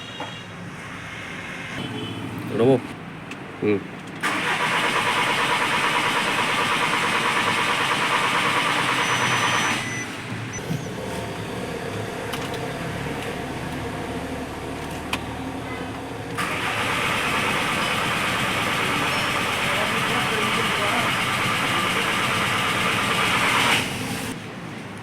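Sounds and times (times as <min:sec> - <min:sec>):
car engine whirring: 0:00.0 - 0:24.8.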